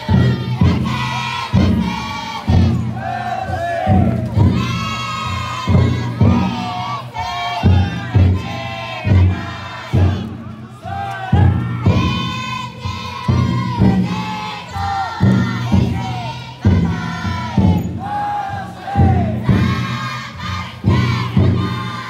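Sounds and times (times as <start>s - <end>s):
crowd chanting: 0.0s - 22.0s
taiko drum beating slowly: 0.0s - 22.0s.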